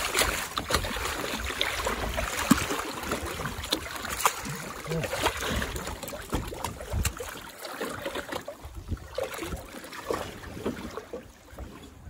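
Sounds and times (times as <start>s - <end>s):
water slapping around boat: 0.0s - 12.0s.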